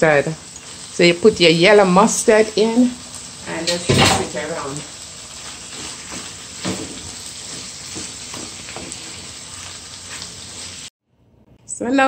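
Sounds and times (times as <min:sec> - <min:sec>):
sauce sizzling in a pot: 0:00.0 - 0:10.9.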